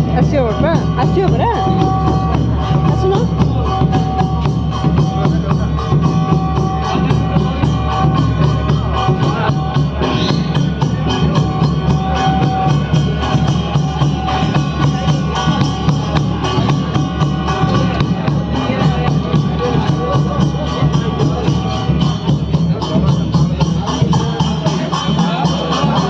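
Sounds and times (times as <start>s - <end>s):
fast dense drumming: 0.0s - 26.0s.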